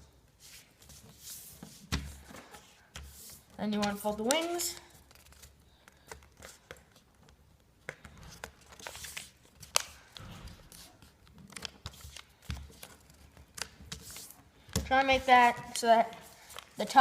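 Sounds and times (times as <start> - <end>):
paper rustling and crinkling: 0.5 - 7.0, 8.2 - 17.0.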